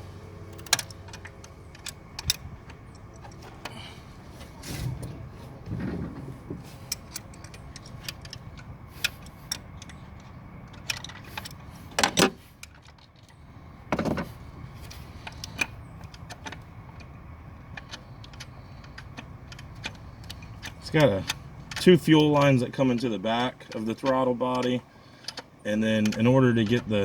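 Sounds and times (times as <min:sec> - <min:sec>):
hand tools and metal parts clinking: 0:00.0 - 0:27.0
low steady hum: 0:00.0 - 0:27.0.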